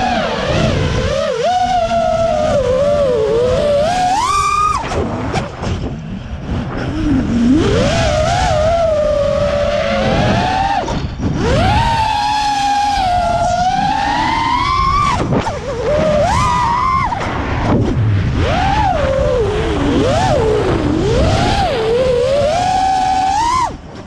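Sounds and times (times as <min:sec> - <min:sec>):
drone motors whining: 0:00.0 - 0:24.0
wind rush: 0:00.0 - 0:24.0.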